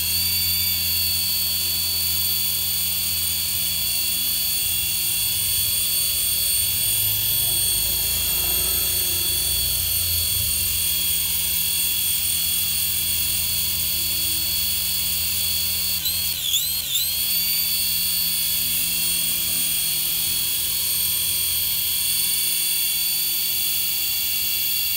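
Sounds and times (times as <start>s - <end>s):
toy helicopter rotors whining: 0.0s - 24.9s.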